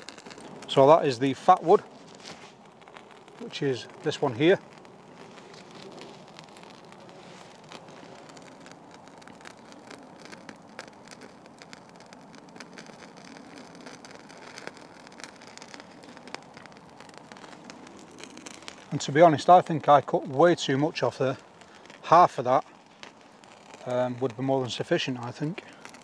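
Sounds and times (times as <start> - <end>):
faint steady hiss: 0.0 - 26.0
tinder burning with crackles: 0.0 - 26.0.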